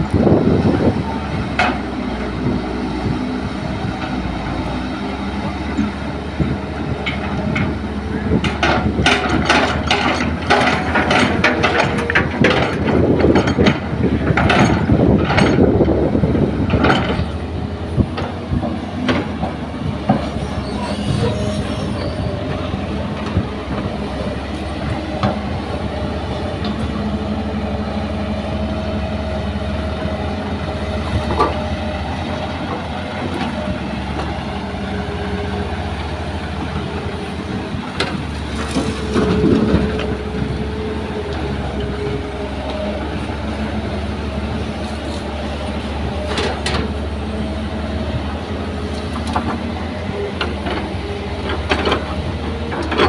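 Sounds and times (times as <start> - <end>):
diesel engines running: 0.0 - 53.0.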